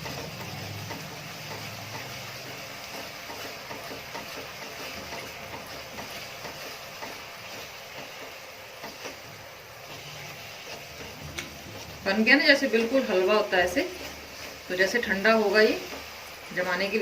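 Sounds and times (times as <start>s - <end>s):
spatula scraping a pan: 0.0s - 17.0s
steady cooking hiss: 0.0s - 17.0s.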